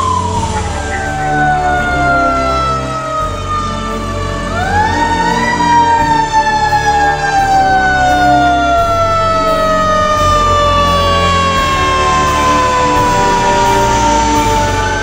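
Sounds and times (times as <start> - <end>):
fire engine siren wailing: 0.0 - 15.0
truck engine rumbling: 0.0 - 15.0.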